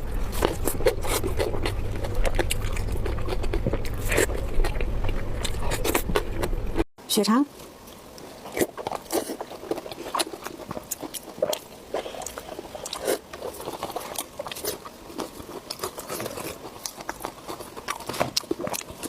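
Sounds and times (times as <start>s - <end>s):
biting and chewing food: 0.0s - 6.9s, 7.6s - 19.0s.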